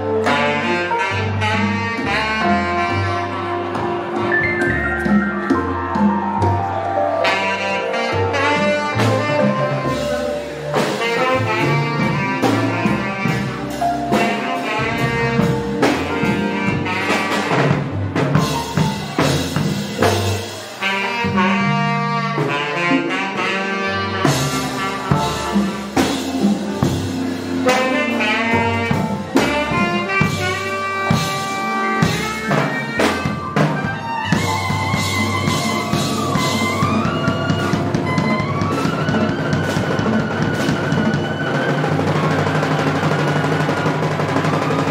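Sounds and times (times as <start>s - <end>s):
jazz horns: 0.0s - 44.9s
saxophone: 0.0s - 44.9s
swinging drum kit: 0.0s - 44.9s.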